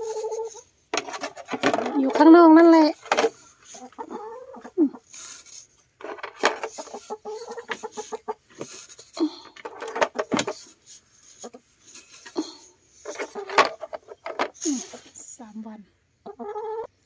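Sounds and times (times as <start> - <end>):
hens clucking: 0.0 - 15.3, 16.0 - 17.0.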